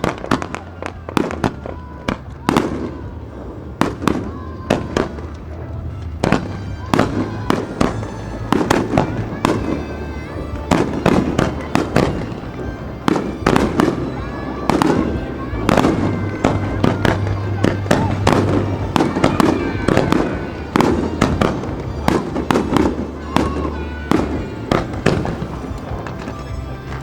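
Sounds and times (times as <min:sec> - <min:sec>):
fireworks bangs and crackles: 0:00.0 - 0:27.0
music playing: 0:00.0 - 0:27.0.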